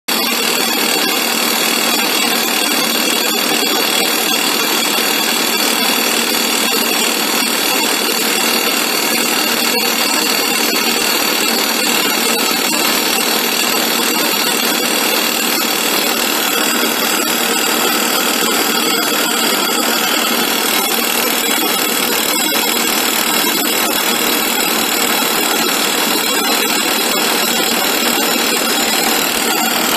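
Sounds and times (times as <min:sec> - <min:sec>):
hydraulic rock drill drilling: 0:00.1 - 0:29.9.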